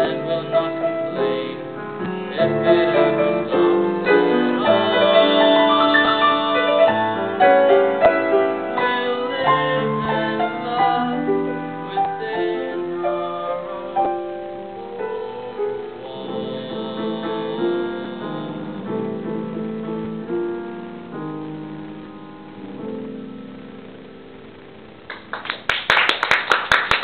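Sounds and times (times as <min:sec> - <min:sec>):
grand piano playing: 0:00.0 - 0:25.0.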